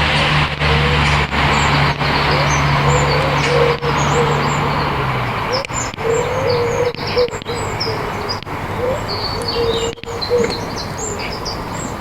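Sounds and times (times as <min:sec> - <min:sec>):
noisy background: 0:00.0 - 0:12.0
bird low coos: 0:00.2 - 0:11.5
bird high chirps: 0:01.0 - 0:12.0.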